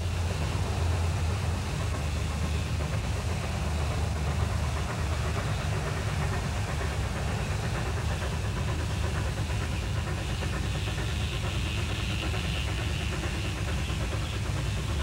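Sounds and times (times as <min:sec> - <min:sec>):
steam locomotive rumbling: 0:00.0 - 0:15.0.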